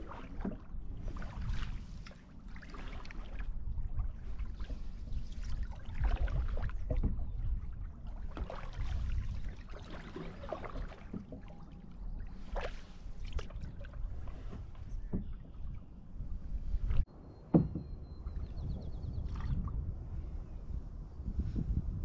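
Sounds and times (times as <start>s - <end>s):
paddle splashing in water: 0.0s - 19.8s
wind rumble on microphone: 0.0s - 22.0s.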